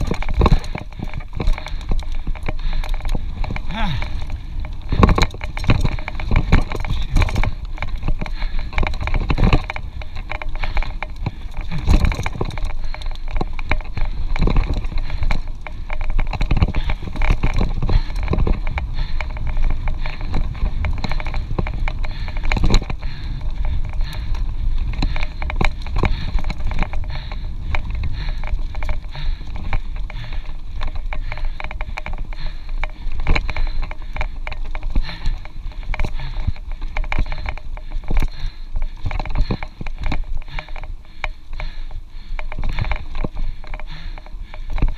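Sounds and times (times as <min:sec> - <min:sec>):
bike knocking over bumps: 0:00.0 - 0:44.9
bike tyres rumbling and rattling: 0:00.0 - 0:44.9.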